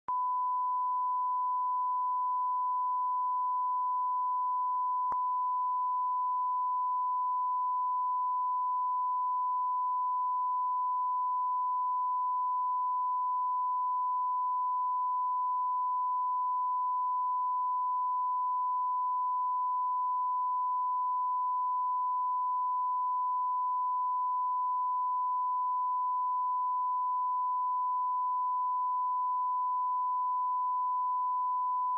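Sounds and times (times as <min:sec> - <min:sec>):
steady test tone beep: 0:00.0 - 0:31.9.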